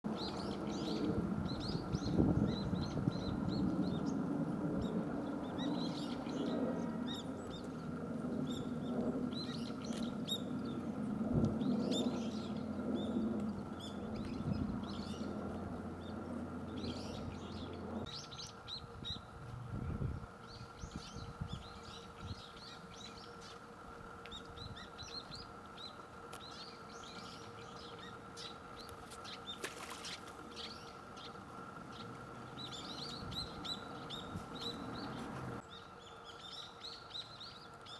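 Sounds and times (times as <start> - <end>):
birds chirping: 0.1 - 37.9
faint steady hum: 0.1 - 37.9.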